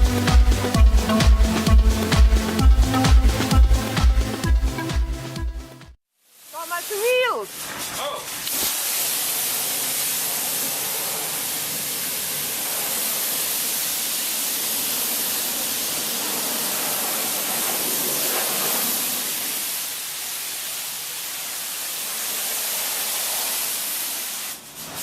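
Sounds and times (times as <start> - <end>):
pressure washer spraying water: 0.0 - 4.8, 6.5 - 25.0.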